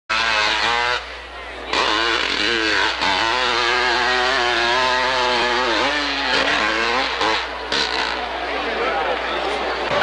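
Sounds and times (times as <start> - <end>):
dirt bike engine revving: 0.1 - 10.0.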